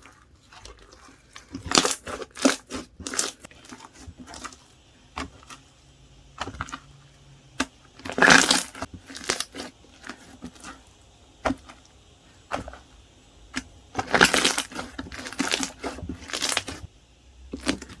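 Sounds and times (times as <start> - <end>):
slime crackling and squelching: 0.0 - 18.0.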